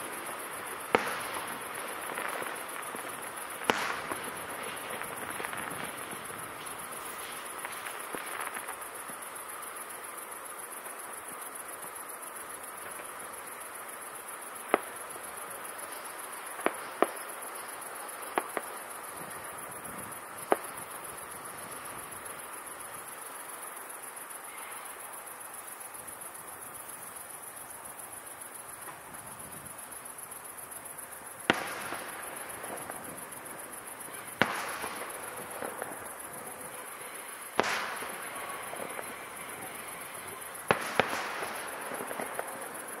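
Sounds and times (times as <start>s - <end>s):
fireworks bursting: 0.0s - 24.0s, 25.7s - 43.0s
rattle after firework bursts: 0.0s - 43.0s.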